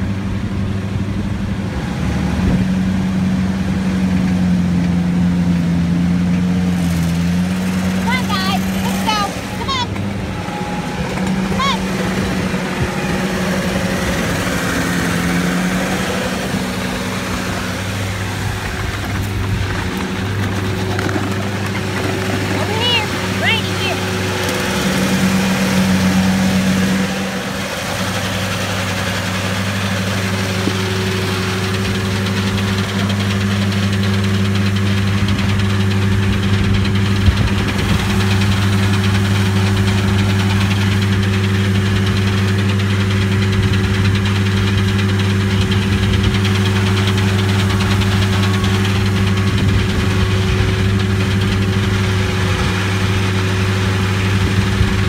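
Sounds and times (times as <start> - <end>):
heavy machinery engine drone: 0.0 - 55.0.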